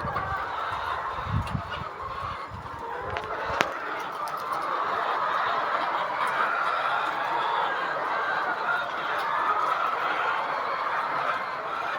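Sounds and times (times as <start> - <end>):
hens clucking: 0.0 - 11.9.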